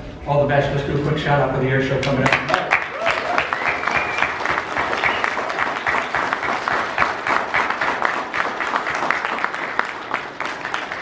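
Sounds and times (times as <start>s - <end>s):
crowd applauding: 2.0s - 11.0s.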